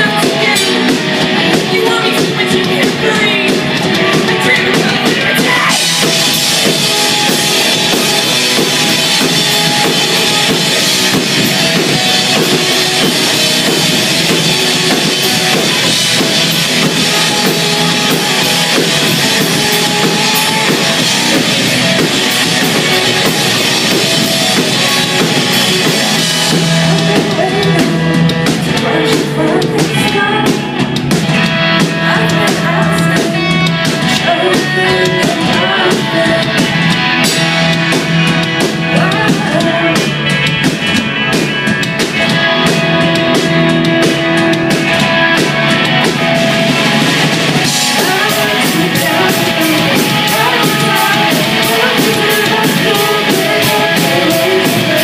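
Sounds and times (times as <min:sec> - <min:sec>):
person singing: 0:00.0 - 0:41.0, 0:42.2 - 0:55.0
live rock band playing: 0:00.0 - 0:55.0.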